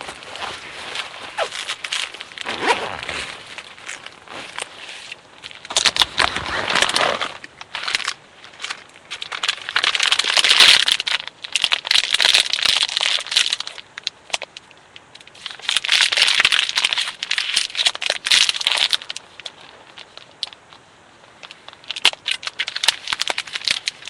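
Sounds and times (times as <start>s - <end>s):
thin material crinkling: 0.0s - 20.7s, 21.3s - 24.0s.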